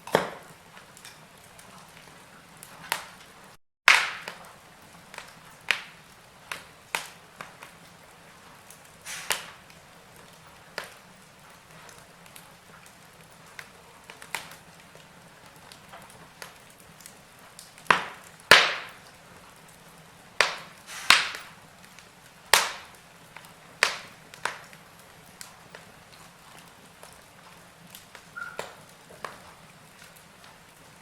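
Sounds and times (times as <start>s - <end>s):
faint hiss of fire: 0.0s - 31.0s
fire popping and snapping: 0.0s - 31.0s.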